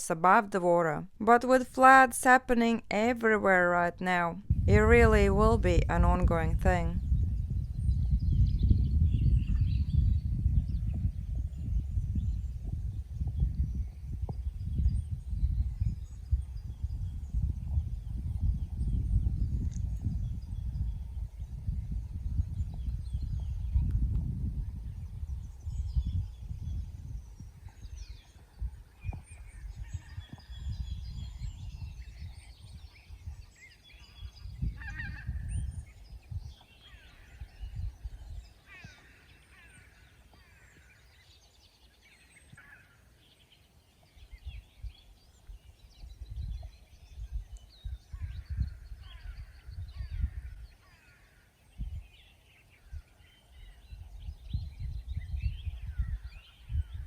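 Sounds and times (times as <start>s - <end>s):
birds calling and chirping: 3.6s - 57.0s.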